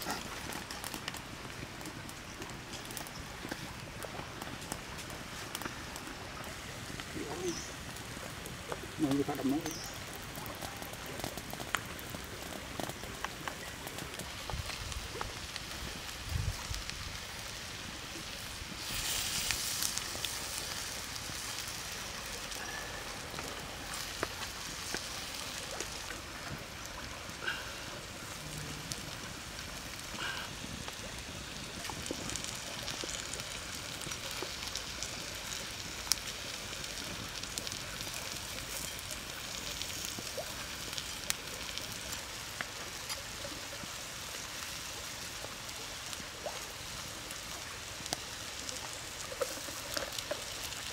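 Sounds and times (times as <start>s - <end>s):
prawns sizzling on hot stone: 0.0s - 50.9s
wood fire crackling: 0.0s - 50.9s.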